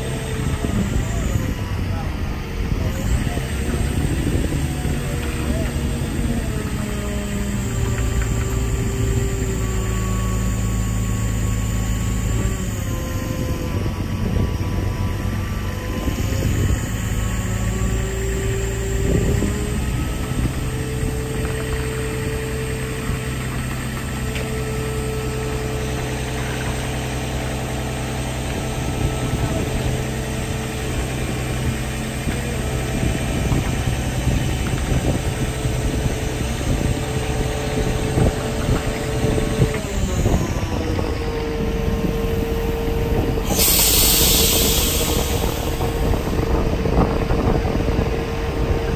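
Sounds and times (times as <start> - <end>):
diesel engine running: 0.0 - 48.9
wind buffeting microphone: 0.0 - 48.9.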